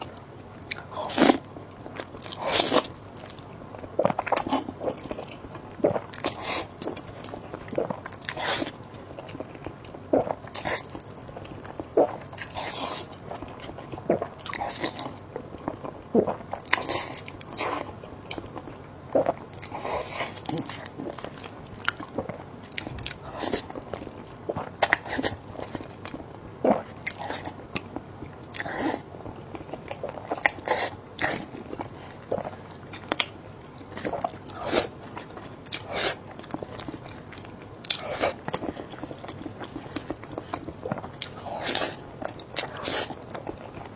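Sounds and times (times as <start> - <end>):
person chewing food: 0.0 - 43.9.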